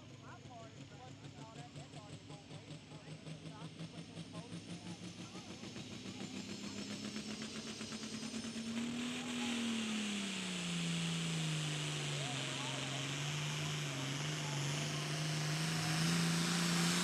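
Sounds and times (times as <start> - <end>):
tractor diesel engine under load: 1.3 - 17.0.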